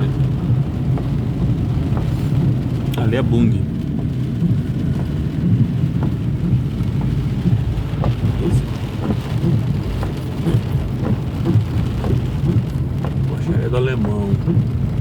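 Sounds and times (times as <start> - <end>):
engine and tyres on wet road: 0.0 - 15.0
raindrops ticking on car: 0.0 - 15.0.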